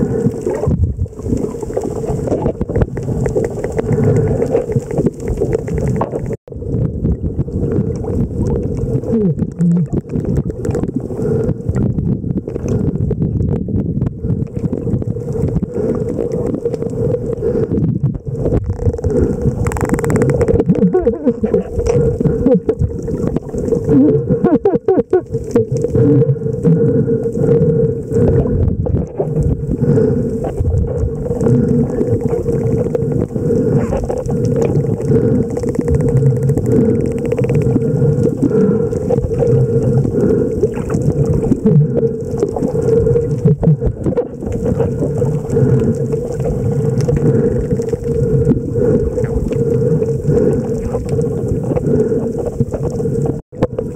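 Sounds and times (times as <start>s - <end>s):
underwater rumble of moving water: 0.0s - 53.9s.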